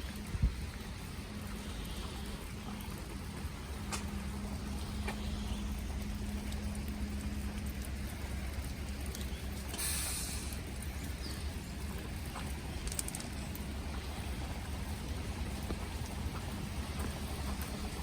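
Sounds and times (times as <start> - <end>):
faint vehicle engine hum: 0.0 - 18.0
steady low rumble: 0.0 - 18.0.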